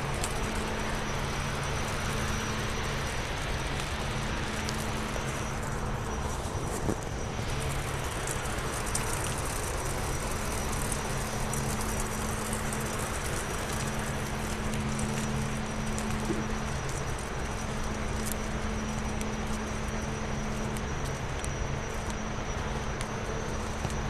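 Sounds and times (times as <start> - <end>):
machinery hum: 0.0 - 24.0.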